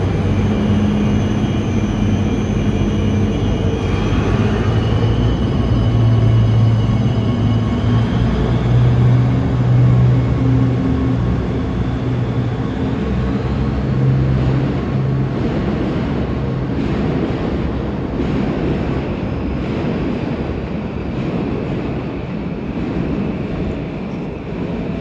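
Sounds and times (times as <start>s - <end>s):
diesel locomotive engine: 0.0s - 25.0s
locomotive rolling rumble: 0.0s - 25.0s.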